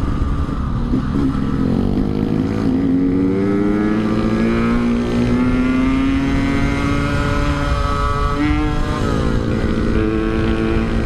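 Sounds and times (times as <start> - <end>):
two-stroke motorcycle accelerating: 0.0 - 11.0.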